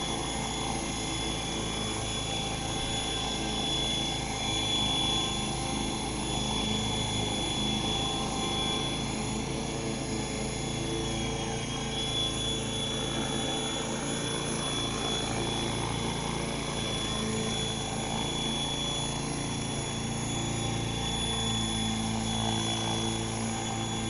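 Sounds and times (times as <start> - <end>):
model helicopter drone and whine: 0.0 - 24.0.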